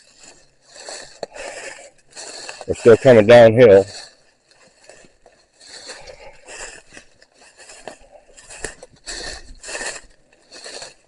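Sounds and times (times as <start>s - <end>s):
footsteps on dry leaves: 0.0s - 11.0s.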